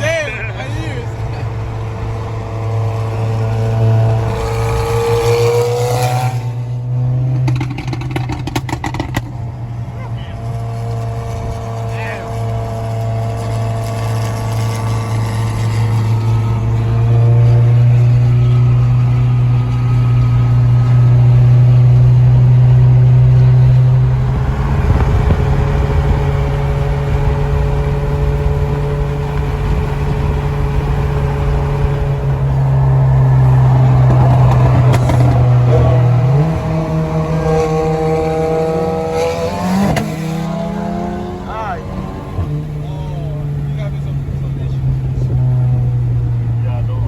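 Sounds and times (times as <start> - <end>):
car engine droning: 0.0 - 47.0.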